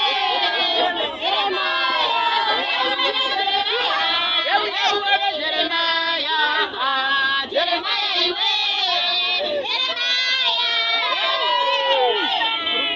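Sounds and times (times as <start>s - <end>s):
women and girls singing together: 0.0s - 12.9s.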